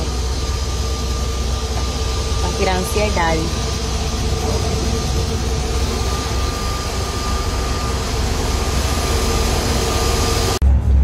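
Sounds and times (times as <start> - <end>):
bus engine rumble: 0.0 - 11.0
thin steady whine: 0.0 - 11.0.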